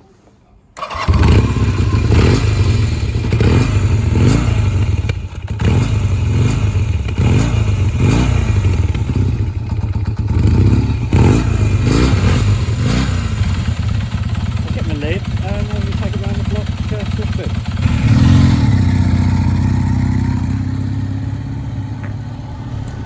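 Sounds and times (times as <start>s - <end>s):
motorcycle engine running: 0.8s - 23.0s.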